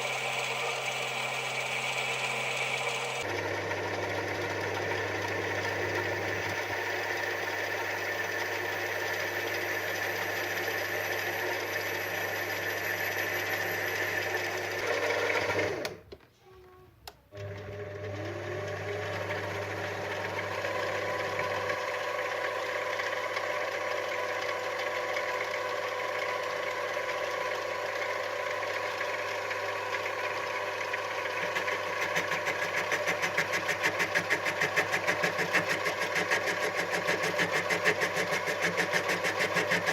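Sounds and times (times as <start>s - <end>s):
lathe running: 0.0s - 16.0s, 17.4s - 39.9s.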